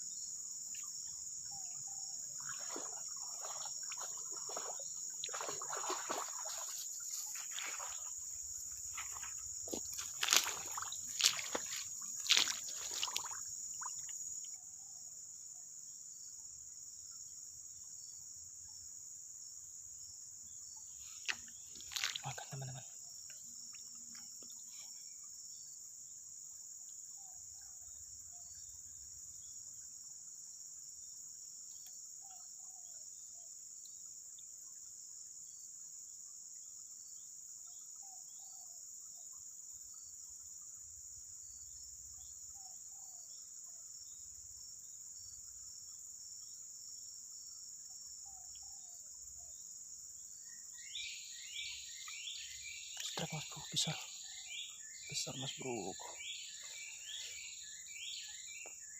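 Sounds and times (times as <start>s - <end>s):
insects droning: 0.0s - 58.9s
short lower insect call: 0.0s - 58.9s.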